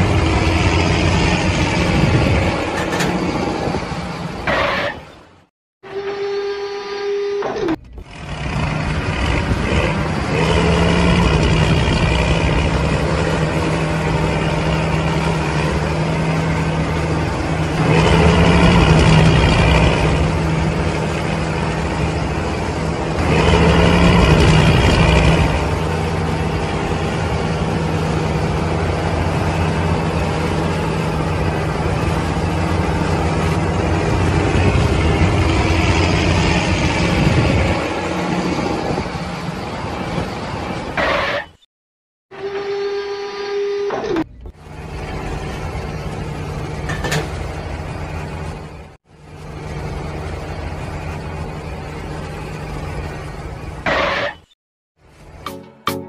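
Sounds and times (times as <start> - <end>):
tractor engine running: 0.0 - 6.0, 7.4 - 41.6, 43.9 - 56.0.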